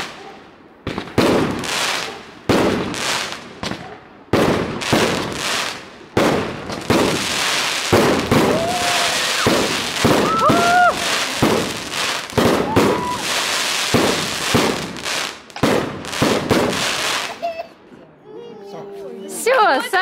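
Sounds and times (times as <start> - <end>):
fireworks bangs: 0.8 - 17.4.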